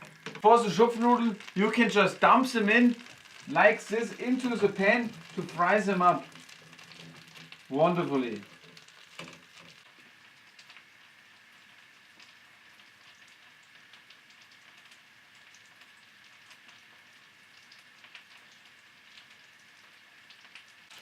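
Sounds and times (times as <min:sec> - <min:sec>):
noodles sizzling in a pan: 0:00.0 - 0:21.0.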